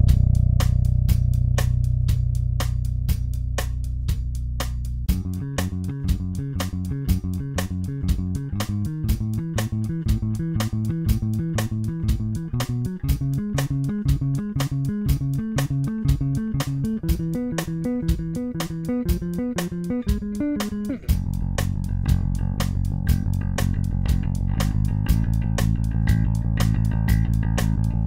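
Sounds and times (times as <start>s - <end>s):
electric bass plucked notes: 0.0s - 28.0s.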